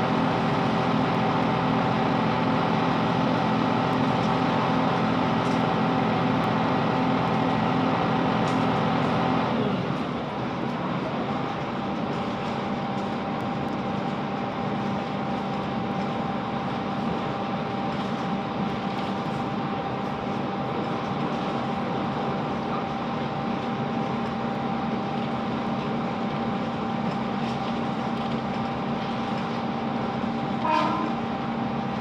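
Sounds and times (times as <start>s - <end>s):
train engine and wheels rumbling: 0.0s - 32.0s.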